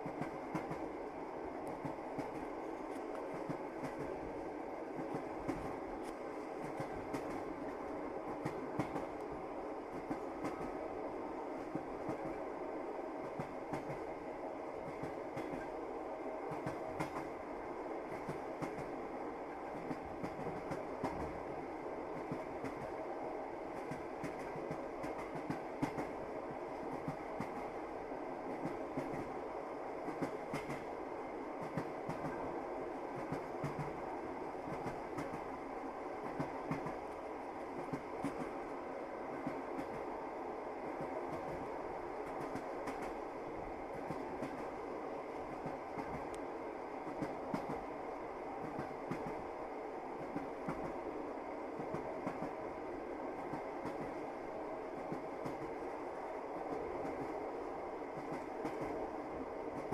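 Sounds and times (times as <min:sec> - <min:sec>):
train carriage rumbling: 0:00.0 - 0:59.9.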